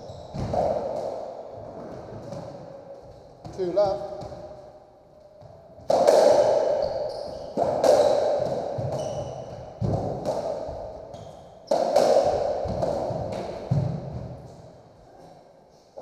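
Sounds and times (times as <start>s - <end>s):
racquet and ball cracks echoing: 0.3s - 14.9s.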